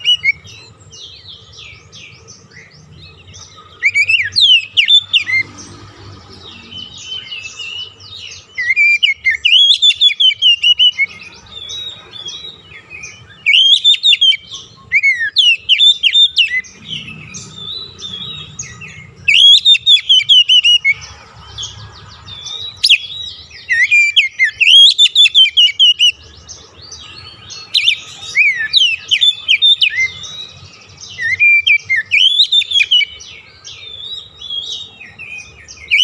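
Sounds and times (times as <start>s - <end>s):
bird song whistled phrases: 0.0s - 2.7s, 3.3s - 5.5s, 6.5s - 21.1s, 22.4s - 26.3s, 27.0s - 36.0s
quiet bird calls: 0.0s - 36.0s.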